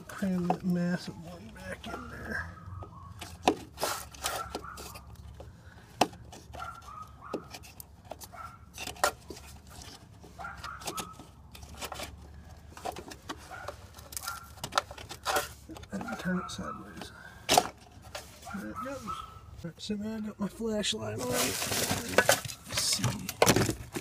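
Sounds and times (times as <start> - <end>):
handling rustle: 0.0 - 19.6, 21.1 - 24.0.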